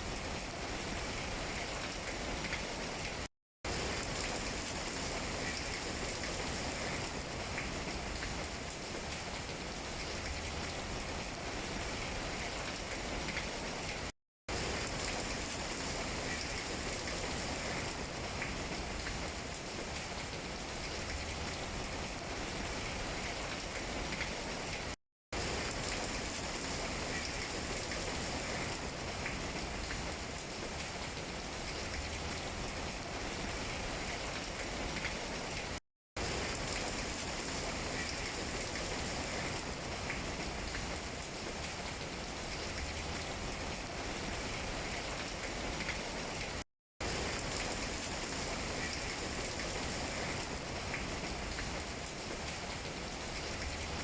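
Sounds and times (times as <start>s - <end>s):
rain on tree leaves: 0.0s - 54.0s.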